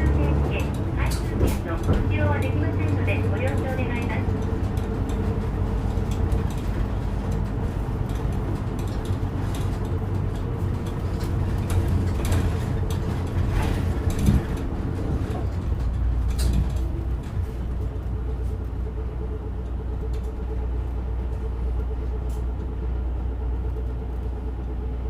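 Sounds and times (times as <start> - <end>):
bus body rattles and clicks: 0.0 - 25.0
bus engine and road rumble: 0.0 - 25.0.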